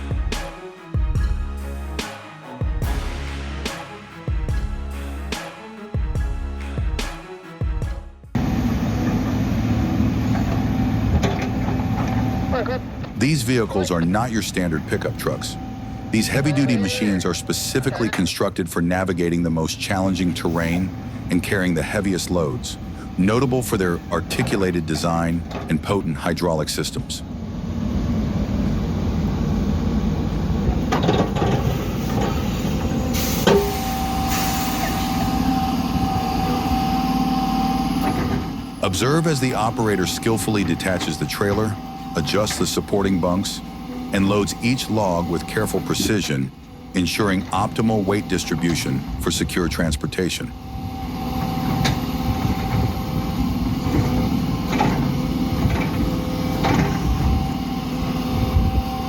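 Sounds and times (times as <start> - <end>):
diesel engine running: 8.4 - 59.0
high whine: 8.4 - 59.0.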